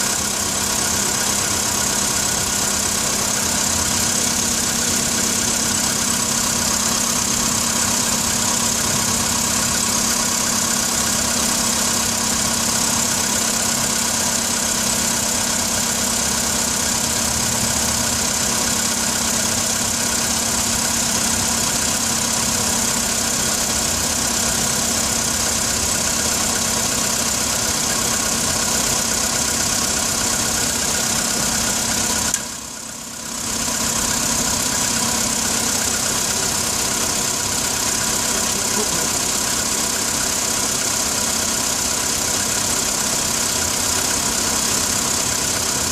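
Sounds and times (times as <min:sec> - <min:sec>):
car engine idling with a knock: 0:00.0 - 0:45.9.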